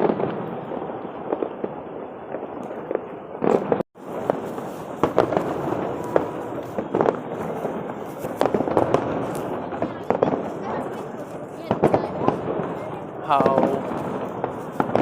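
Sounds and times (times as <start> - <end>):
continuous din of explosions: 0.0 - 15.0
fireworks bangs and crackles: 0.0 - 15.0.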